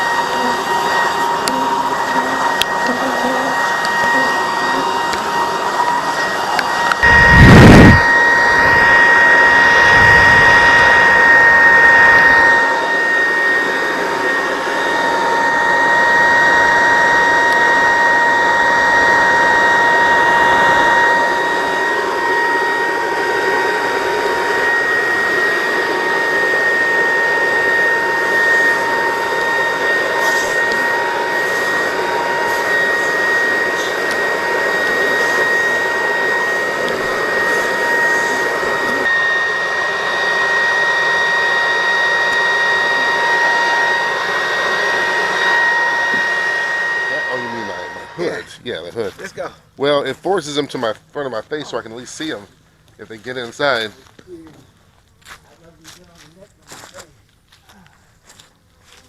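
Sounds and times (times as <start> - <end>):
small electric motor whining: 0.0 - 59.0.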